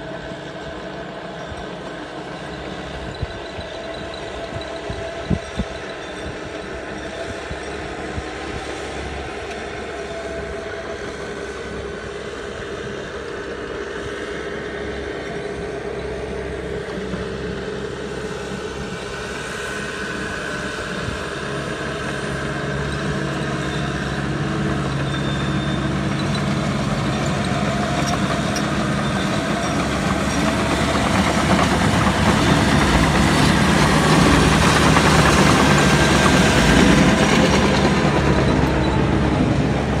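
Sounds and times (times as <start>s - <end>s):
bulldozer diesel engine under load: 0.0s - 40.0s.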